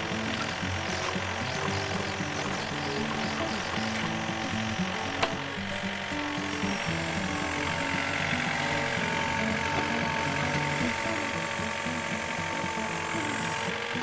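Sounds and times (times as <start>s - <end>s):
drive whine: 0.0s - 14.0s
excavator diesel engine: 0.0s - 14.0s.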